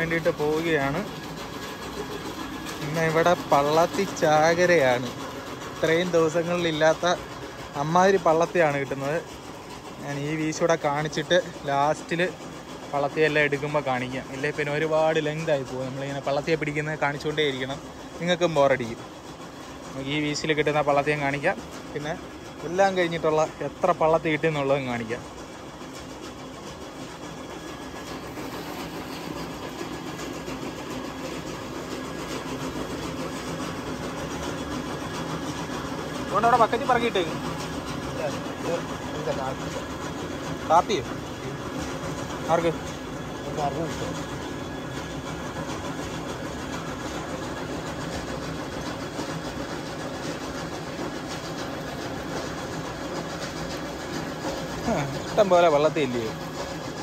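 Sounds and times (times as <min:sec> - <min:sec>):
engine running with low hum: 0:00.0 - 0:57.0.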